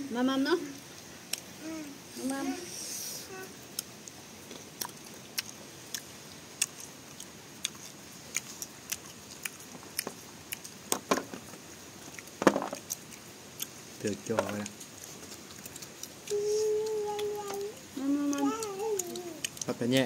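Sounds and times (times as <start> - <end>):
crunchy chewing: 3.7 - 20.0.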